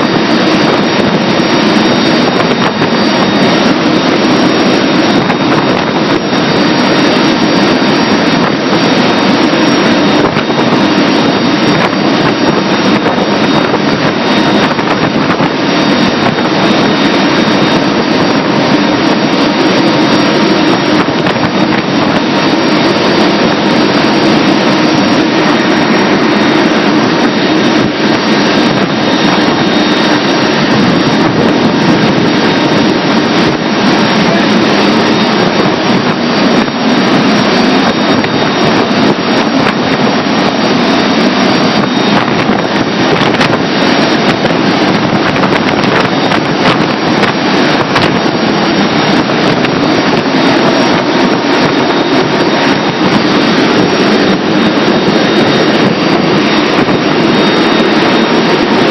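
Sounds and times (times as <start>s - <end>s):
airplane engine drone in cabin: 0.0s - 58.9s.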